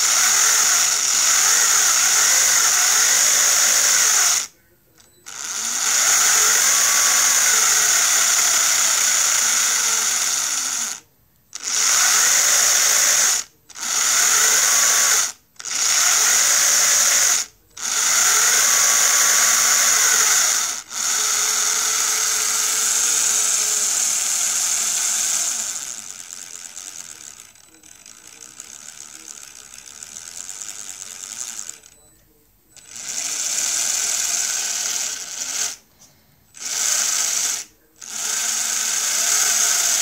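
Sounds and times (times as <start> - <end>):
small electric motor whining: 0.0 - 32.0, 32.7 - 35.9, 36.5 - 40.0.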